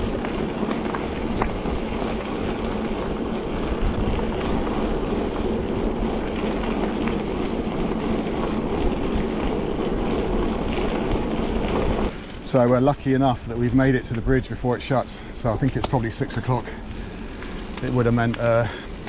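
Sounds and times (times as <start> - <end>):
bicycle tyre rumble: 0.0 - 19.0.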